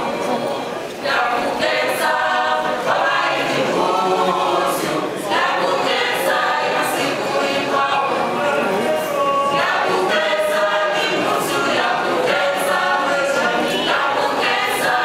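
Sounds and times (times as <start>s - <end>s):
mixed choir singing unaccompanied: 0.0s - 15.0s.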